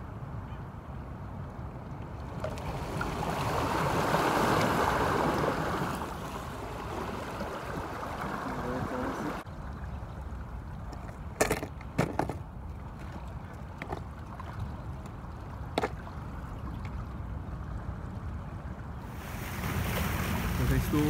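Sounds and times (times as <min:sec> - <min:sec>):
water lapping at shoreline: 0:01.9 - 0:21.0.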